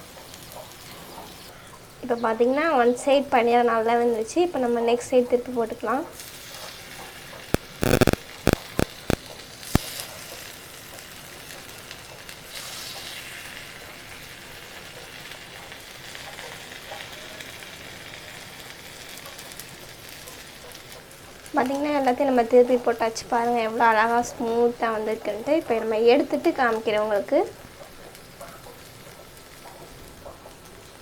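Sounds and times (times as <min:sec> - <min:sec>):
dumplings sizzling in oil: 0:00.0 - 0:31.0.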